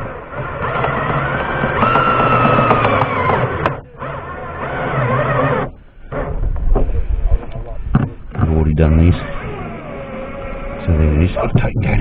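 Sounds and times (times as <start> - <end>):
cordless drill motor whine: 0.0 - 11.5.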